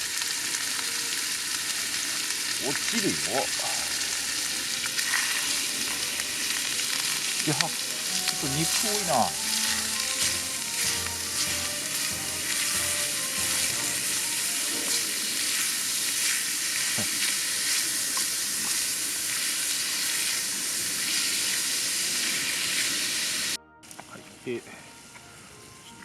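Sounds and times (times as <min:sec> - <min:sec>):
meat sizzling in a pan: 0:00.0 - 0:23.6.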